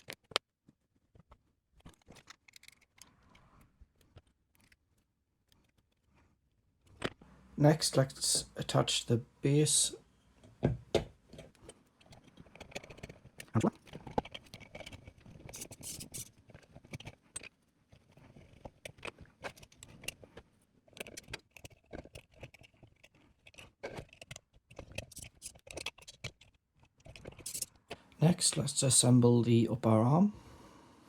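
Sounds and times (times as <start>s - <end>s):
plastic parts clicking and scraping: 0.0s - 7.3s, 10.3s - 28.6s.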